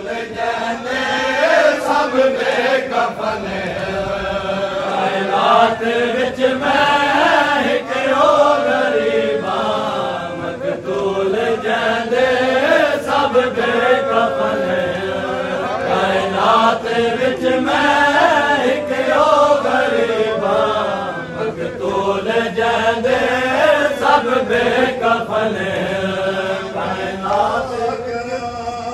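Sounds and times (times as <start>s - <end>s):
men chanting a lament: 0.0s - 28.9s.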